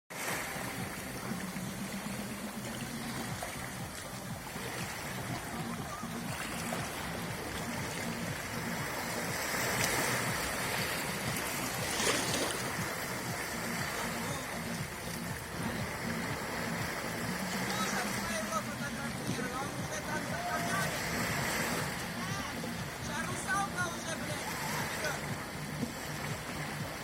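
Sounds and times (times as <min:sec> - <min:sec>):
sea surf washing onto beach: 0:00.1 - 0:27.0.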